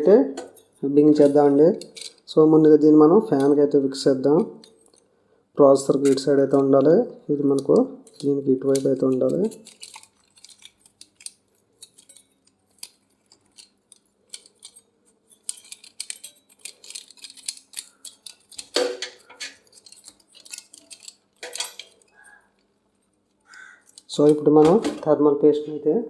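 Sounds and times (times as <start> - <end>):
plastic fan clicks and clatter: 0.0 - 2.4, 5.9 - 25.2.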